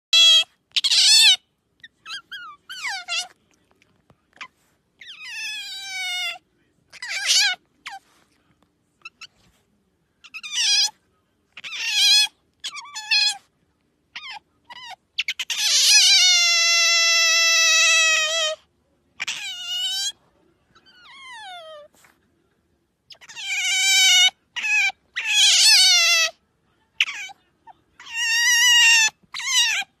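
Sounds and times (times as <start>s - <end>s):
otter pup squeaking: 0.1s - 22.2s, 23.0s - 26.4s, 27.0s - 30.0s.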